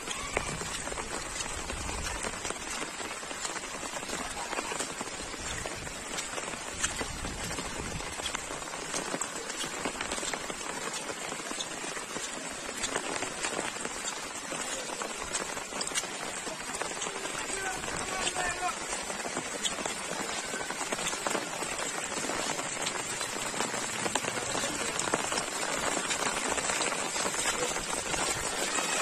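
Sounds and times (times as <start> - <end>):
rain on wet paving: 0.0 - 29.0.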